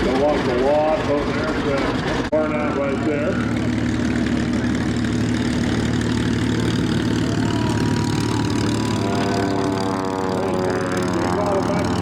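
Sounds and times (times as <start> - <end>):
piston engines idling: 0.0 - 12.0.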